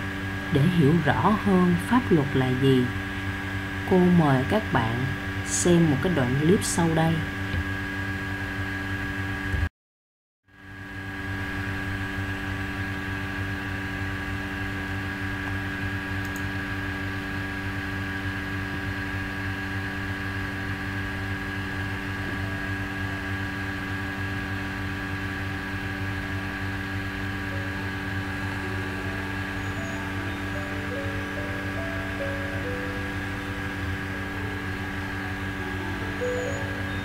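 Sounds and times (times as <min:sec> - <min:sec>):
steady hum of fixed tones: 0:00.0 - 0:08.7, 0:10.7 - 0:37.0.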